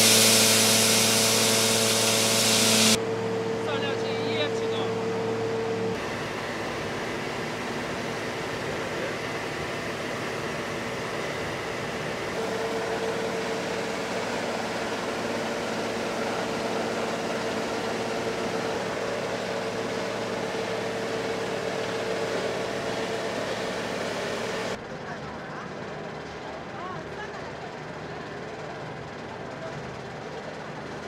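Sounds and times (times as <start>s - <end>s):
machinery hum and whir: 0.0s - 27.0s.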